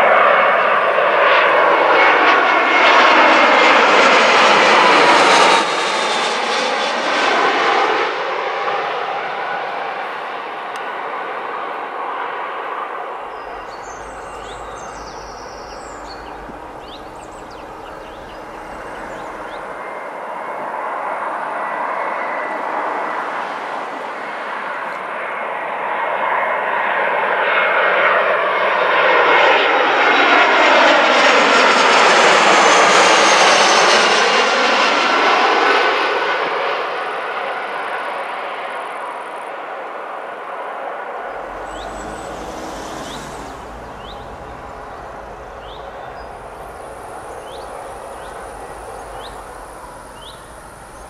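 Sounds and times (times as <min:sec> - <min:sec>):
jet airliner passing overhead: 0:00.0 - 0:51.0.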